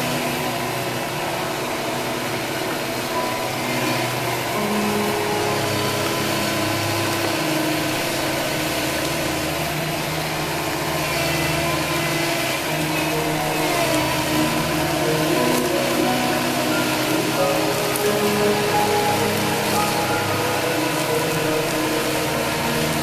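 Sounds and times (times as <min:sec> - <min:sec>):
excavator diesel engine under load: 0:00.0 - 0:23.0.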